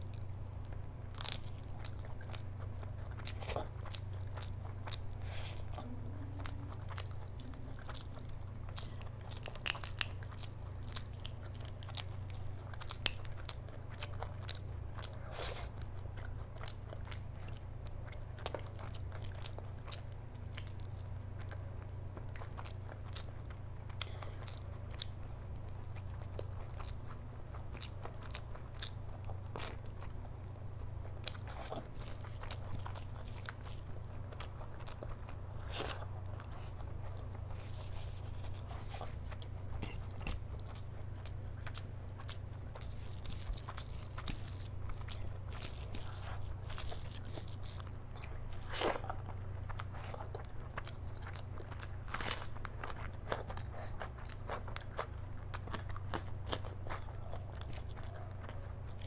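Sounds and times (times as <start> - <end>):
low steady hum: 0.0 - 59.0
person chewing food: 0.0 - 59.0.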